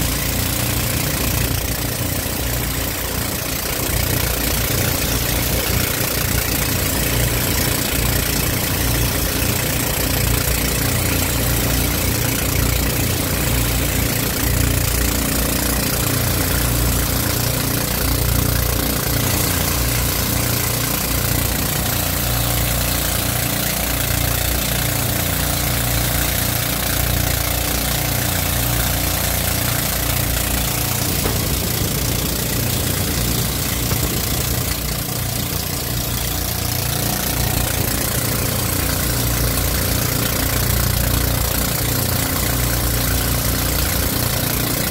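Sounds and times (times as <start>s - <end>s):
boat engine throbbing: 0.0s - 44.9s
water and wind rushing: 0.0s - 44.9s.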